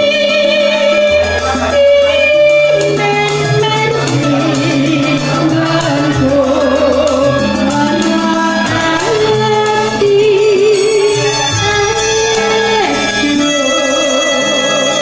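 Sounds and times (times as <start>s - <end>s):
band accompaniment with bass line: 0.0s - 15.0s
person singing wavering notes: 0.0s - 15.0s.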